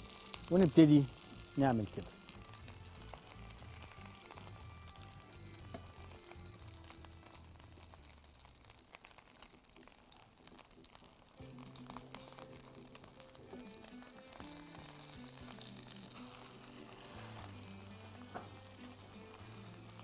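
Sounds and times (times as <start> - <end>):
birds sizzling in a frying pan: 0.0 - 20.0
soft background music: 0.0 - 20.0.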